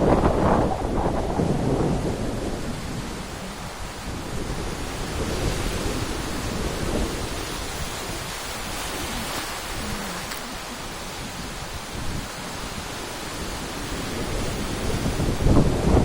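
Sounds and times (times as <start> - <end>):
sea waves breaking: 0.0 - 16.0
wind rumbling on microphone: 0.0 - 16.0.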